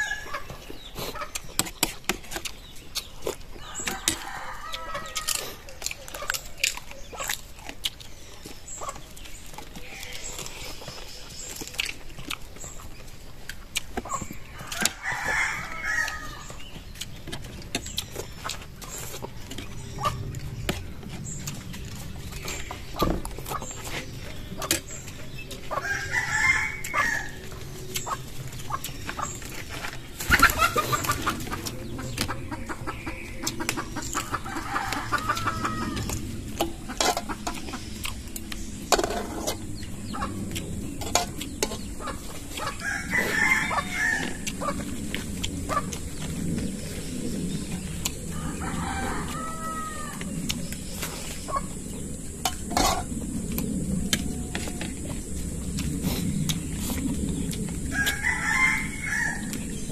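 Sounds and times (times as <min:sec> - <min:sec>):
chickens clucking and crowing: 0:00.0 - 0:59.9.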